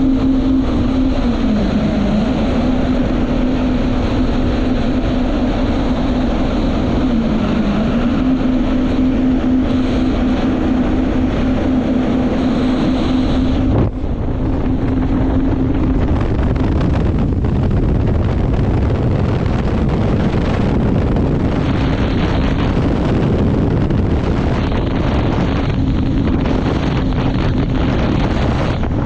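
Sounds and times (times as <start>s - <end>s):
boat engine running: 0.0s - 29.0s
wind buffeting microphone: 0.0s - 29.0s.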